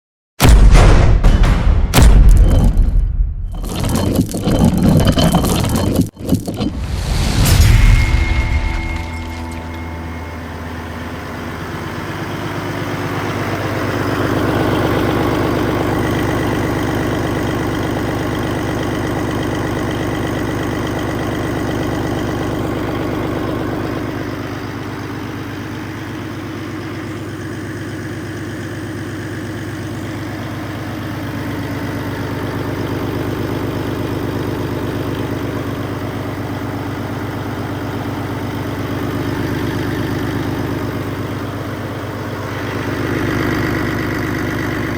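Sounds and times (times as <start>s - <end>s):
diesel engine idling: 8.3s - 44.9s.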